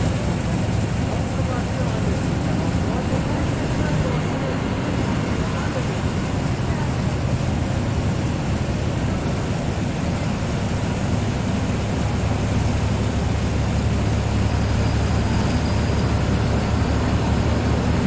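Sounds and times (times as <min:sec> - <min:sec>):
bus engine droning: 0:00.0 - 0:18.0
road and tyre noise: 0:00.0 - 0:18.0.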